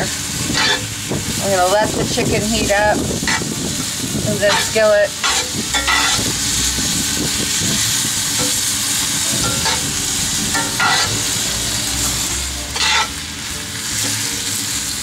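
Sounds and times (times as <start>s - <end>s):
food sizzling in a skillet: 0.0s - 15.0s.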